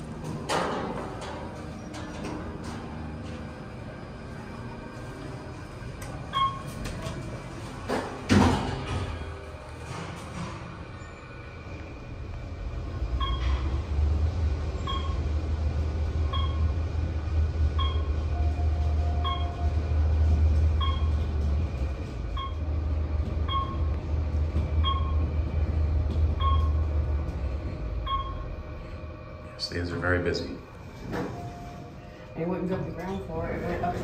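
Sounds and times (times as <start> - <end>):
elevator car rumbling: 0.0 - 34.0.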